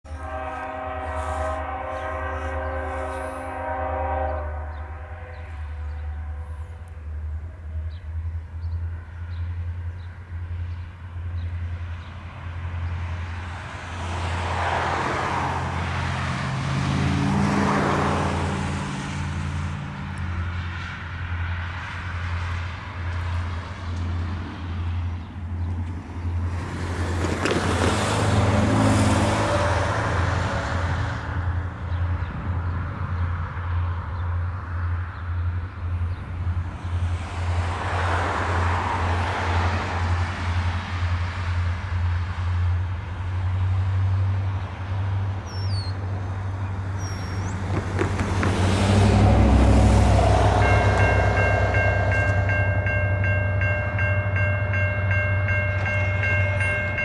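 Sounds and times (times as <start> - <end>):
diesel locomotive drone: 0.0 - 57.0
cars passing by: 0.1 - 57.0.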